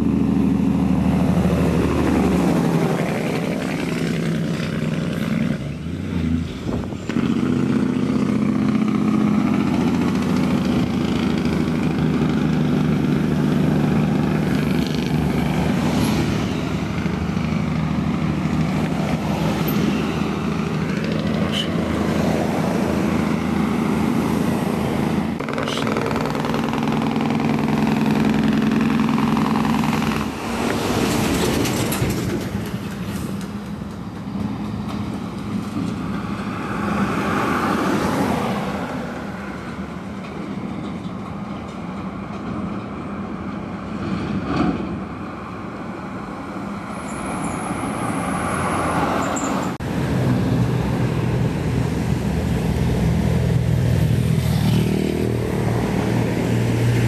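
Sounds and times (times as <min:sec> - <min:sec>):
diesel truck engine drone: 0:00.0 - 0:57.0
traffic and road noise: 0:00.0 - 0:57.0.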